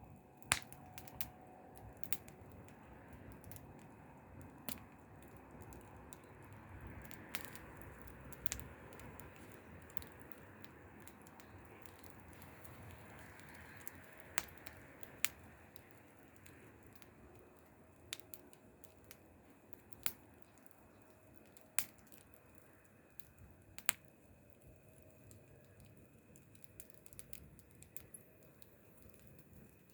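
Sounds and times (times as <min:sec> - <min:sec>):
wood fire crackling: 0:00.0 - 0:29.9
sharp pops of burning wood: 0:00.4 - 0:29.9.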